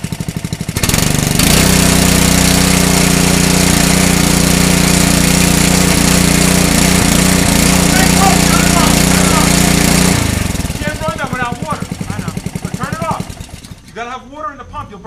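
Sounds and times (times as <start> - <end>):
pressure washer engine running: 0.0 - 14.1.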